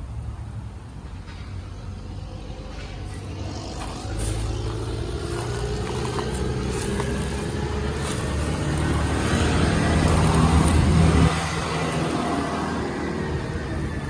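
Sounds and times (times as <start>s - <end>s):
vehicle engine running: 1.1s - 14.0s.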